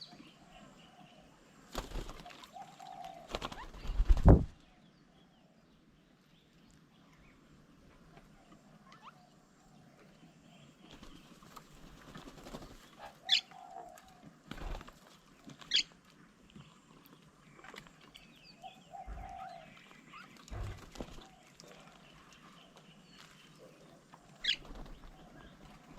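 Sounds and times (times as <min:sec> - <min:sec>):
birds calling: 0:00.0 - 0:05.3, 0:08.1 - 0:14.8, 0:15.6 - 0:15.9, 0:16.7 - 0:25.9.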